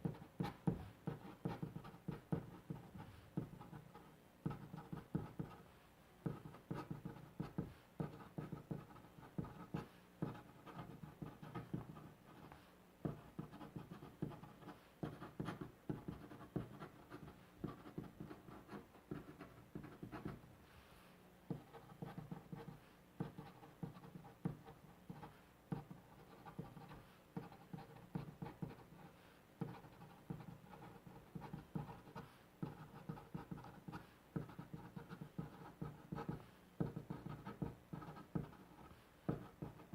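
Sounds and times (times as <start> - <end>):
pen scratching on paper: 0.0 - 20.4, 21.5 - 39.9.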